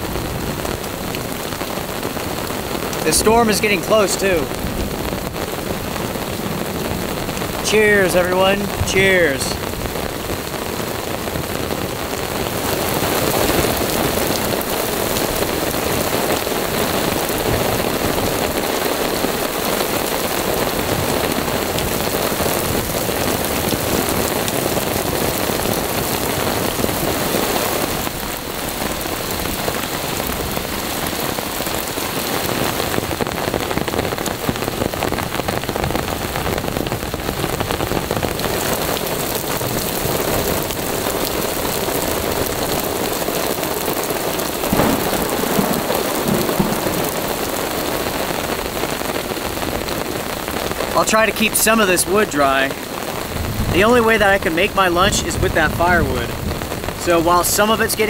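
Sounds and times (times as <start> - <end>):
heavy rain on forest floor: 0.0 - 58.0.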